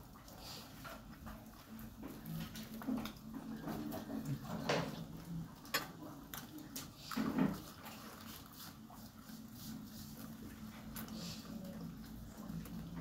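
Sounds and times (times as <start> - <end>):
chewing chicken: 0.0 - 13.0.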